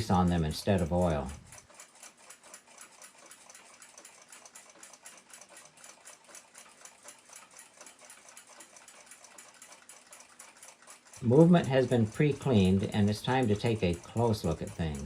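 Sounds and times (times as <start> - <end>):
fast clock ticking: 0.0 - 15.0.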